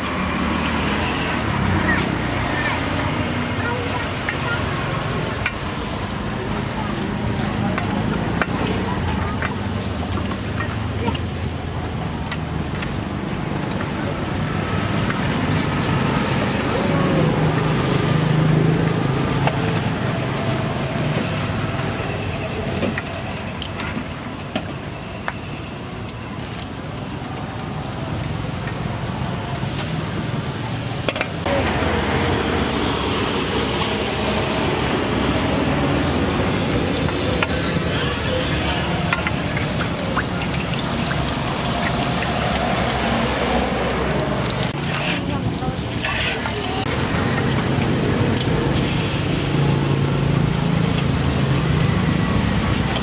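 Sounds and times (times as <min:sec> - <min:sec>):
background chatter: 0:00.0 - 0:53.0
traffic noise: 0:00.0 - 0:53.0.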